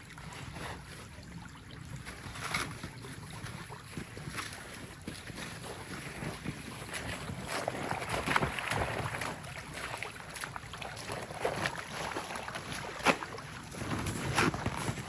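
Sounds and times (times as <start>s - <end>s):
boot footsteps through snow and water: 0.0s - 15.0s.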